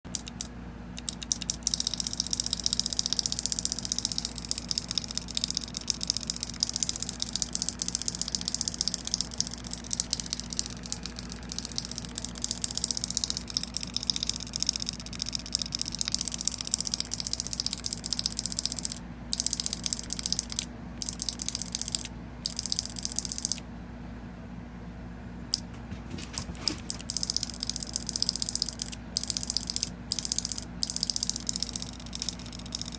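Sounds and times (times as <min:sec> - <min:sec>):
steady low hum: 0:00.0 - 0:32.9
paintball marker solenoid clicking: 0:00.1 - 0:23.6, 0:26.9 - 0:32.9.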